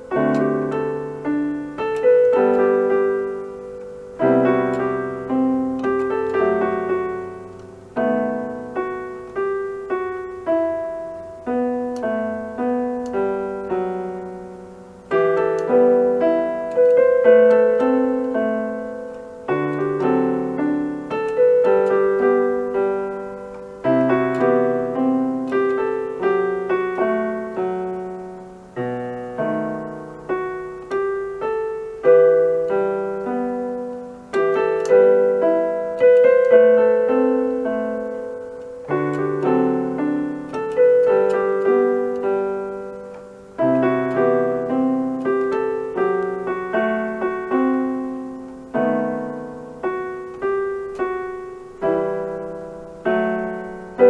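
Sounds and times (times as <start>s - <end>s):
electronic keyboard piano melody: 0.0s - 54.0s.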